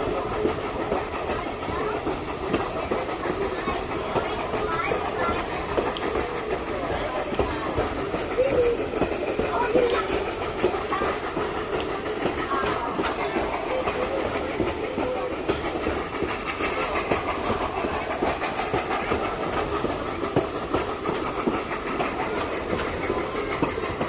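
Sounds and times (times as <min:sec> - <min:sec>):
train wheels clattering on rails: 0:00.0 - 0:24.0.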